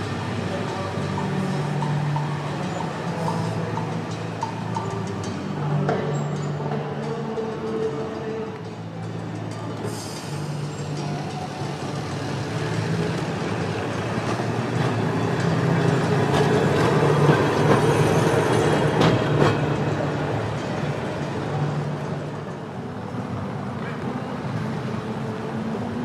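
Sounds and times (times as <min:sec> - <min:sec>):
tram passing: 0:00.0 - 0:26.0
wheels clicking on rails: 0:00.0 - 0:26.0.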